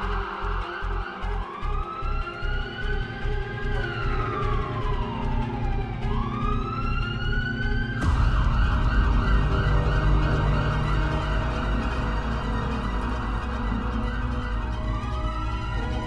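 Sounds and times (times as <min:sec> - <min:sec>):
ambulance siren wailing and yelping: 0:00.0 - 0:16.0
low rumble: 0:01.6 - 0:16.0.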